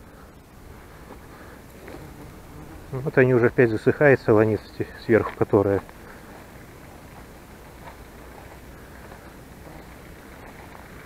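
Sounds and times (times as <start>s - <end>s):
tall grass rustling: 0.0s - 11.0s.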